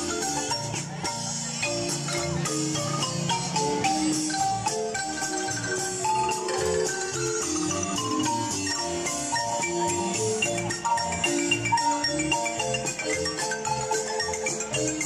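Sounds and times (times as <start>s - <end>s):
marimba dance tune: 0.0s - 15.0s.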